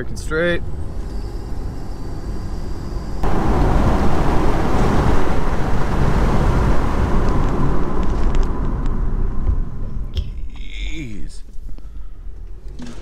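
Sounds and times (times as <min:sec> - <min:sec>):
car road and wind noise: 0:00.0 - 0:12.9.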